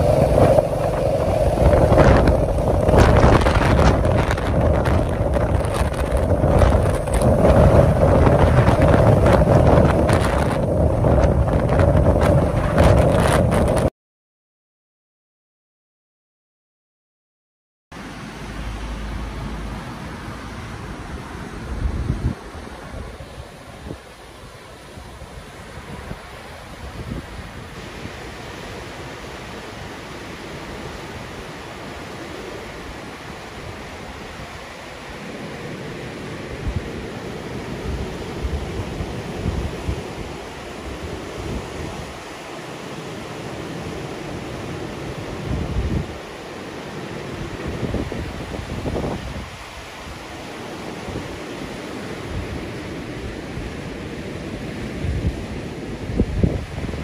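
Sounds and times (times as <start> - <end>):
river rapids rushing over rocks: 0.0 - 13.8, 18.0 - 57.0
wind buffeting microphone: 0.0 - 13.9, 19.3 - 57.0.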